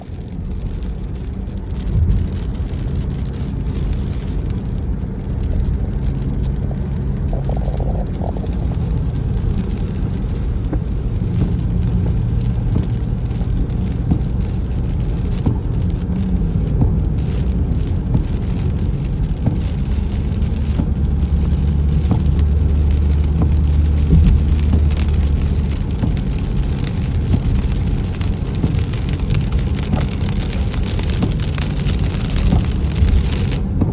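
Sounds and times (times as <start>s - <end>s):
car engine humming: 0.0s - 33.9s
rain on a car: 0.0s - 33.9s.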